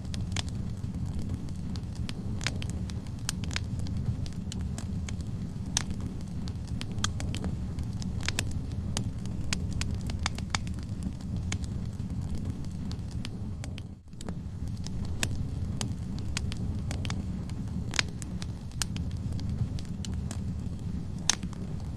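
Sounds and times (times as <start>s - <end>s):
fire flames rumbling: 0.0s - 21.9s
logs crackling and popping: 0.0s - 21.9s.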